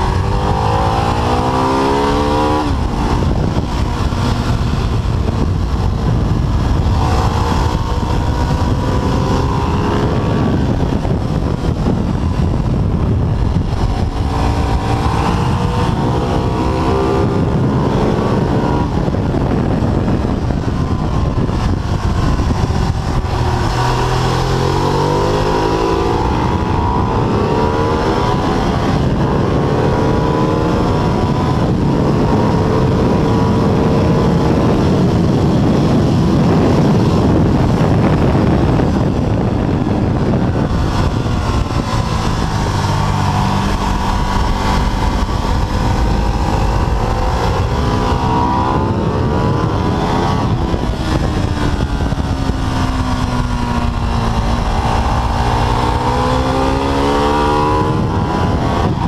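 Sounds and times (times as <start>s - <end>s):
heavy wind rush: 0.0s - 59.0s
motorcycle engine revving: 0.0s - 59.0s.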